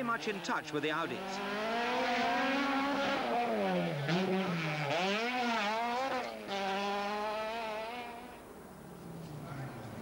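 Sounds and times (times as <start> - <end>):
rally car engine revving: 0.0 - 8.4.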